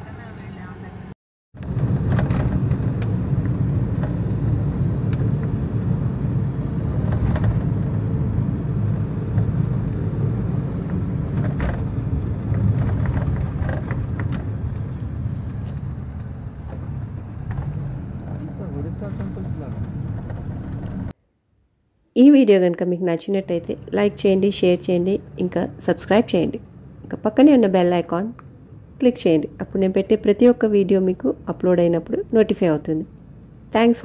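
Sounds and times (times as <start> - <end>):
road vehicle rumbling: 0.0 - 21.2, 22.3 - 34.0.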